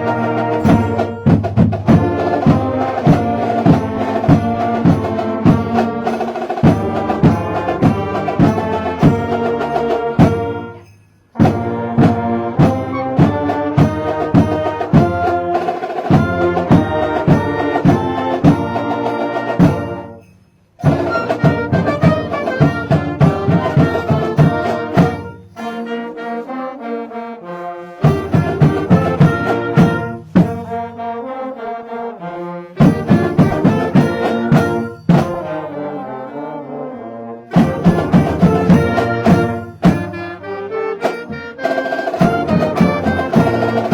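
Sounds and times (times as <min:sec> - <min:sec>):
drum strokes: 0:00.0 - 0:25.8, 0:28.0 - 0:30.9, 0:32.8 - 0:35.6, 0:37.5 - 0:40.4, 0:41.0 - 0:43.9
brass melody: 0:00.0 - 0:43.9.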